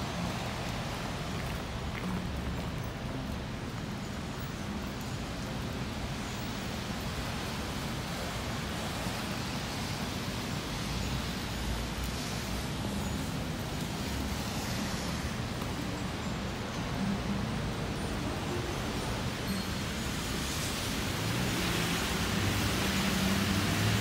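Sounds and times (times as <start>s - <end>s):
low traffic rumble: 0.0s - 24.0s
rain hiss: 0.0s - 24.0s
tyres on wet pavement: 0.0s - 24.0s.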